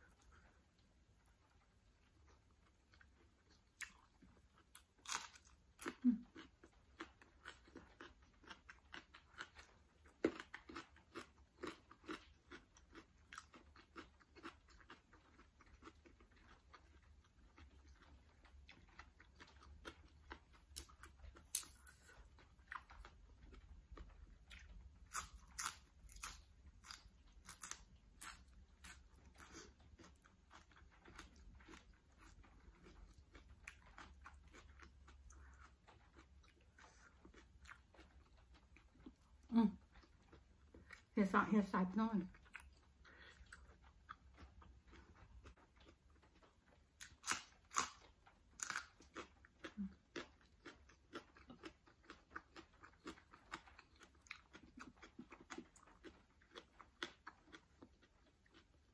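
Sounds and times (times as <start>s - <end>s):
chewing: 0.1s - 41.1s, 42.3s - 58.9s.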